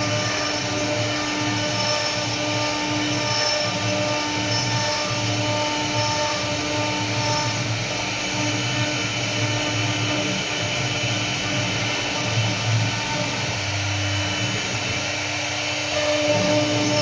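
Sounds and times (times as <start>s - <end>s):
wood router whining: 0.0s - 17.0s.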